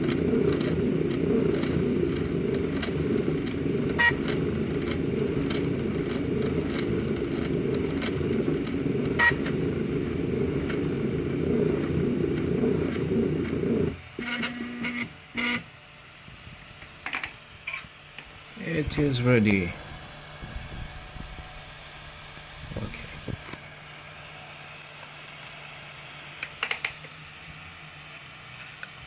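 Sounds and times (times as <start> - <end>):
printer motors humming: 0.0 - 29.0.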